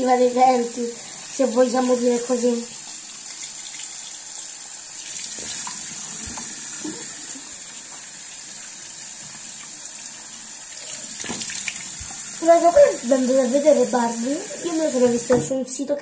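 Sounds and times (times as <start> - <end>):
faucet water running into sink: 0.0 - 15.9.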